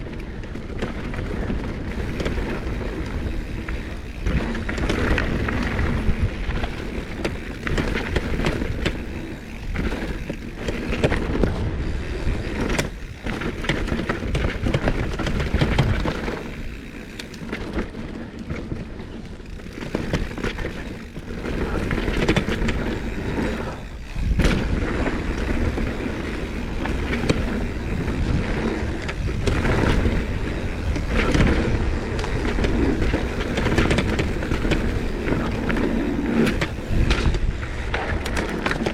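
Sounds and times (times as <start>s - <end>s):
bike rattling: 0.0s - 38.9s
tyres rumbling on rough ground: 0.0s - 38.9s.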